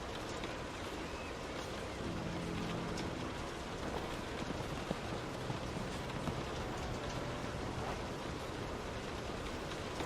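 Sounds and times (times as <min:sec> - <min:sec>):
rain on window pane: 0:00.0 - 0:10.0.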